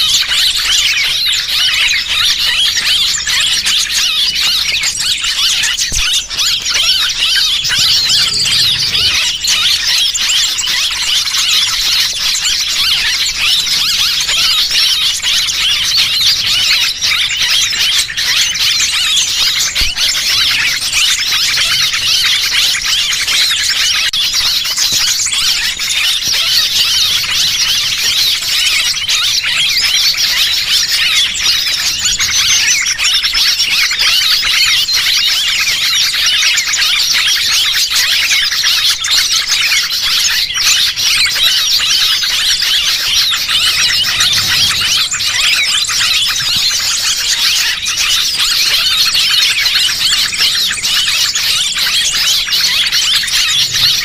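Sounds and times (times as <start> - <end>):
many small birds chirping: 0.0 - 54.0.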